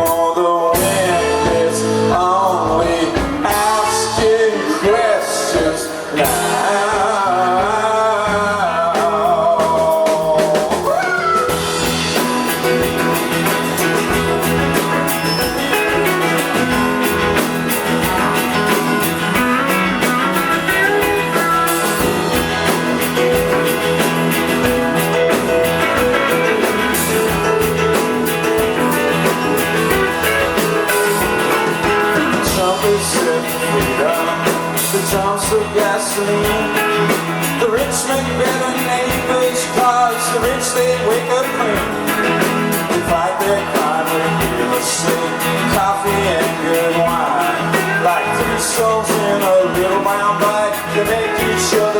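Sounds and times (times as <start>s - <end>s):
bass guitar: 0.0s - 51.9s
drums beating: 0.0s - 51.9s
electric guitars: 0.0s - 51.9s.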